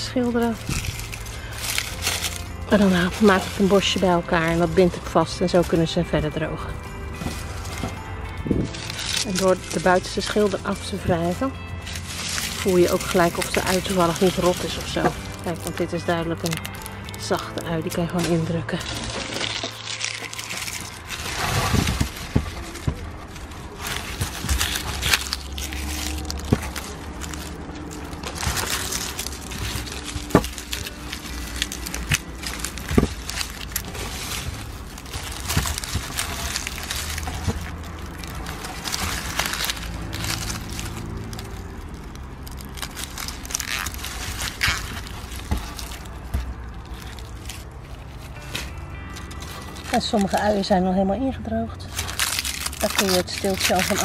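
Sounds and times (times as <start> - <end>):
onion skins rustling and crackling: 0.0 - 51.2, 51.8 - 54.0.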